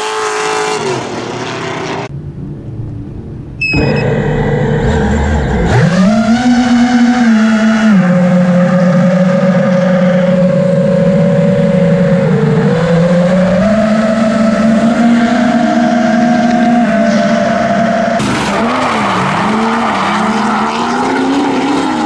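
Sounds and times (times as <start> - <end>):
car engine at high revs: 0.0 - 2.1, 3.7 - 22.0.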